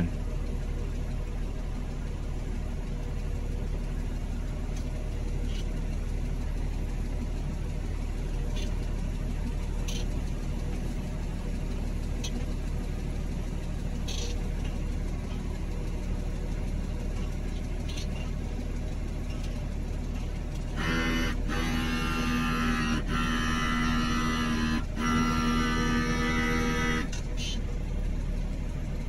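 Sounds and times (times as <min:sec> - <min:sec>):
tractor engine from inside cab: 0:00.0 - 0:29.0.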